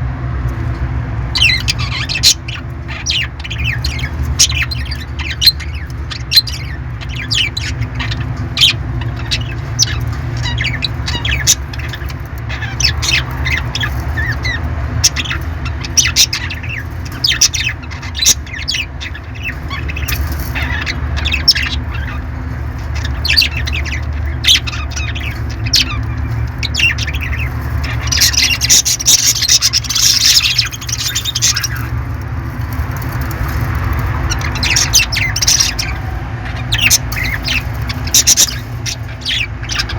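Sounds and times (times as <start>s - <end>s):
parrots squawking: 1.3s - 39.9s.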